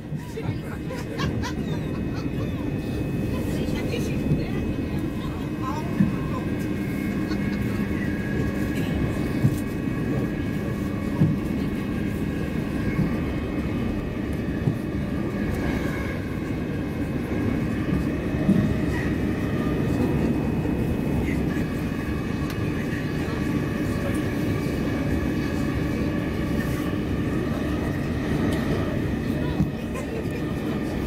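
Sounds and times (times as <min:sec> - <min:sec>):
train interior rumble: 0:00.0 - 0:31.0.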